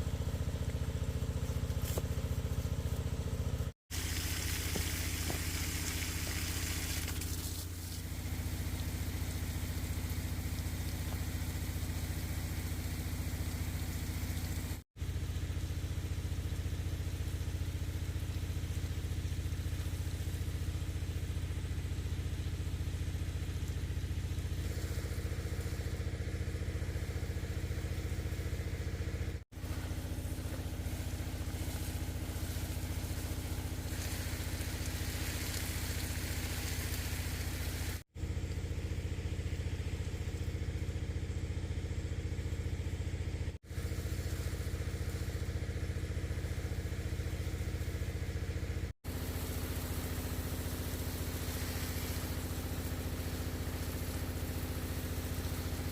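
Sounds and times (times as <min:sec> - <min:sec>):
small engine running: 0:00.0 - 0:55.9.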